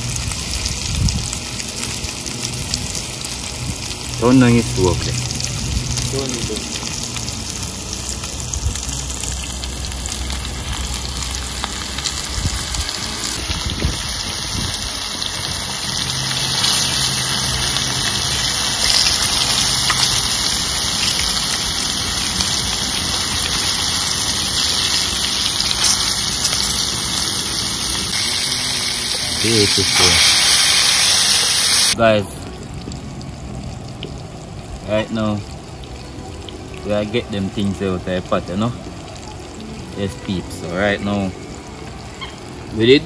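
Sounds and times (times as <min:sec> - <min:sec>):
oil popping: 0:00.0 - 0:35.8
fish frying in oil: 0:00.0 - 0:43.0.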